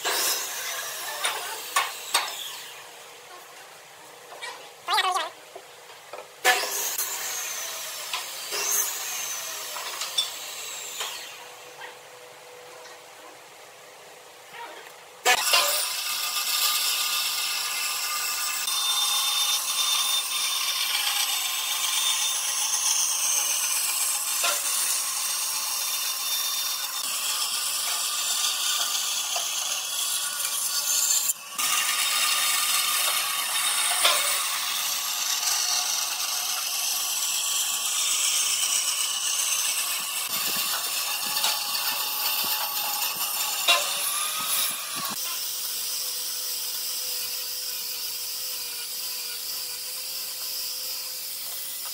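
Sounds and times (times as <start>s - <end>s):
band saw cutting wood: 0.0s - 3.2s, 6.4s - 12.6s, 15.2s - 51.9s
angle grinder whine: 6.5s - 12.4s, 15.3s - 51.9s.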